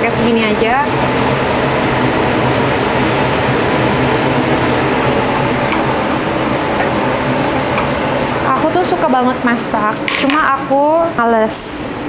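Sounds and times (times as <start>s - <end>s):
steady low hum: 0.0s - 12.0s
garlic sizzling in hot oil: 0.1s - 9.9s.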